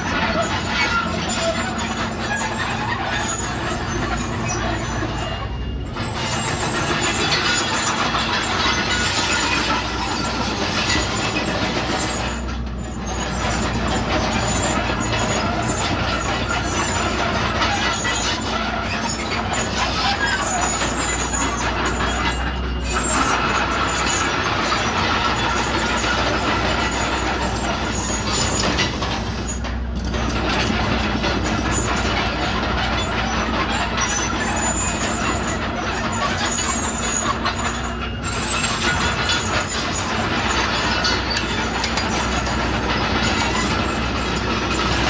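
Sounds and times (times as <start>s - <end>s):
bulldozer diesel engine running: 0.0s - 45.0s
mechanical clatter and squeal: 0.0s - 45.0s.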